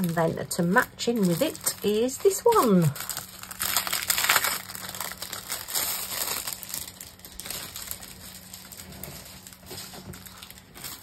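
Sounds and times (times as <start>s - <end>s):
plastic film rustling: 0.0s - 11.0s.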